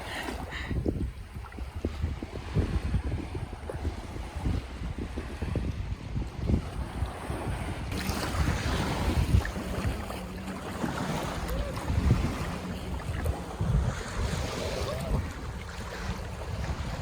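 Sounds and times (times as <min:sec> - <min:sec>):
sea waves washing in: 0:00.0 - 0:17.0
wind buffeting microphone: 0:00.0 - 0:17.0.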